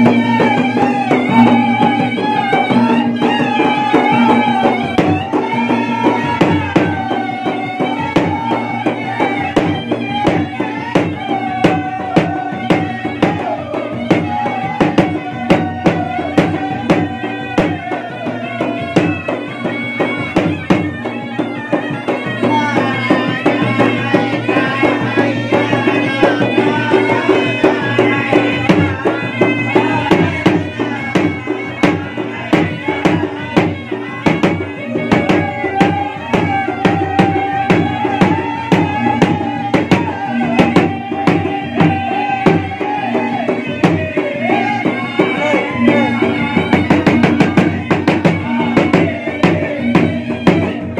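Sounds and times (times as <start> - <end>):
drums in fast rhythm: 0.0 - 50.9
reed pipe melody: 0.0 - 50.9.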